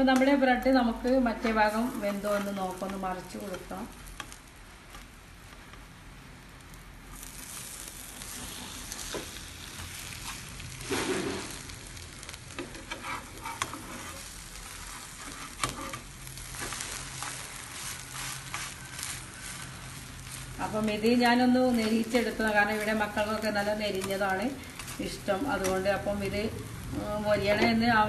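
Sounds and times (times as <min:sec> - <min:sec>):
bread sizzling in a frying pan: 0:00.0 - 0:28.0.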